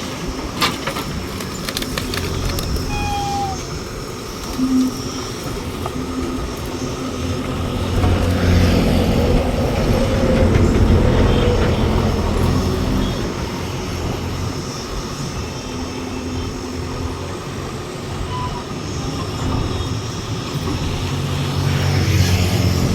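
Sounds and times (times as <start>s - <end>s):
diesel engine rumbling: 0.0s - 22.9s.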